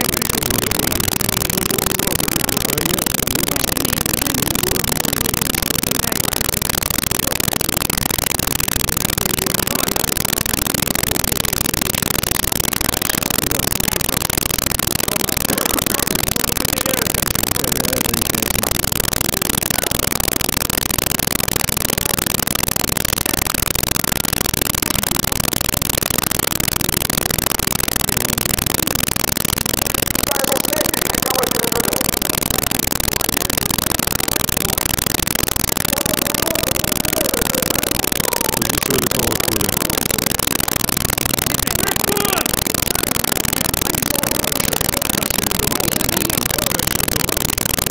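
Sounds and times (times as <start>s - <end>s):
faint voices: 0.0s - 26.0s, 26.7s - 47.9s
loud steady hiss: 0.0s - 47.9s.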